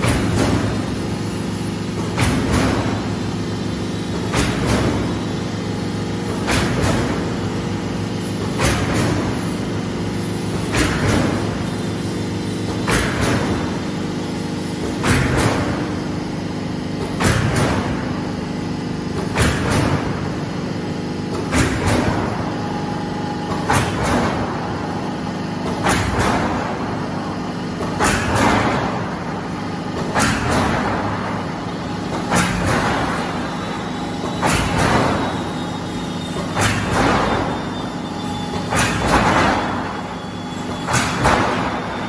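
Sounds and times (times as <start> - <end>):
machine motor hum: 0.0 - 42.0.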